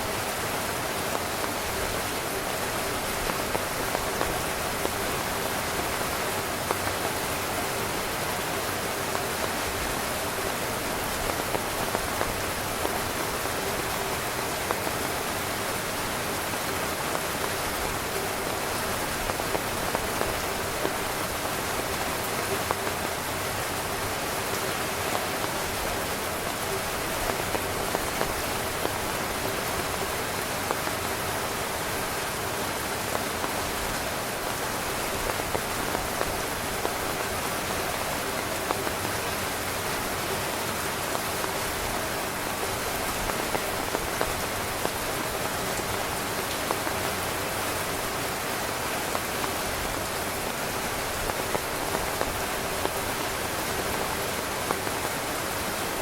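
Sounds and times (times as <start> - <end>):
heavy rain on a tent: 0.0 - 56.0
raindrops tapping on fabric: 0.0 - 56.0.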